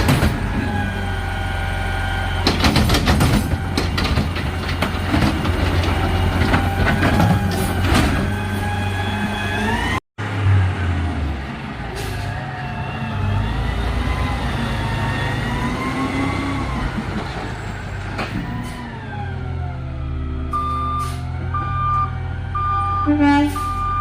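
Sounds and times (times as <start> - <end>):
garbage truck engine rumble: 0.0 - 24.0.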